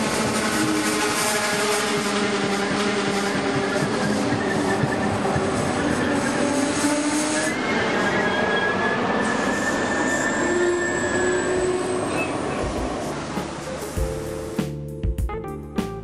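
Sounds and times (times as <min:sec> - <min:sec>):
wheels squealing on rails: 0:00.0 - 0:14.0
train wheels rumbling: 0:00.0 - 0:14.5.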